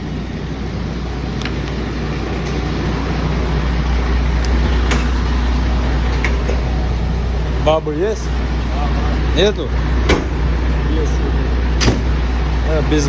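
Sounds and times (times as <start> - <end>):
motor vehicle rumbling: 0.0 - 13.0.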